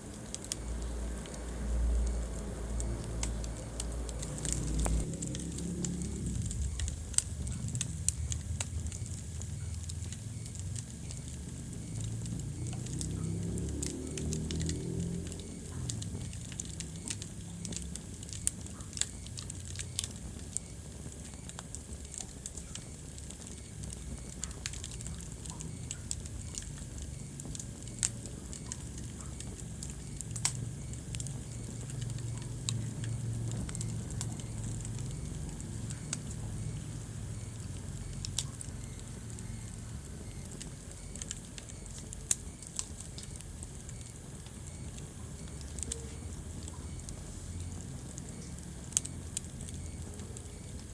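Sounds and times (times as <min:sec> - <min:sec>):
low steady rumble: 0:00.0 - 0:50.9
wood fire crackling and popping: 0:00.0 - 0:50.9.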